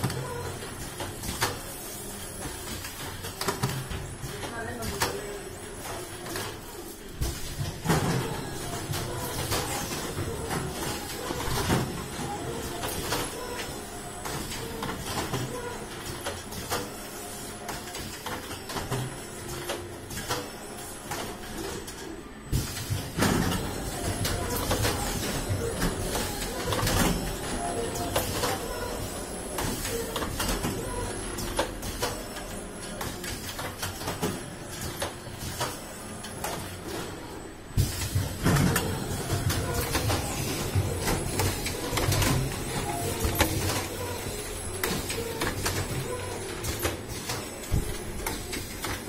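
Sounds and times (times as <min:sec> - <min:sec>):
printing machine humming: 0:00.0 - 0:49.0.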